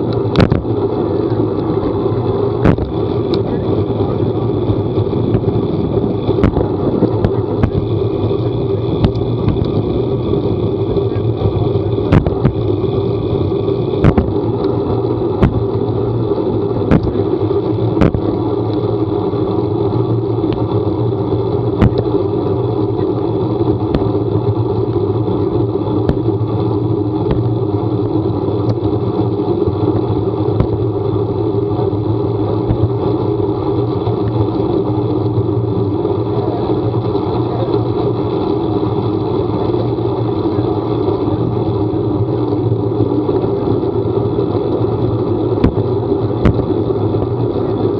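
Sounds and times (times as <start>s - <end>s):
vehicle engine humming: 0.0s - 47.9s.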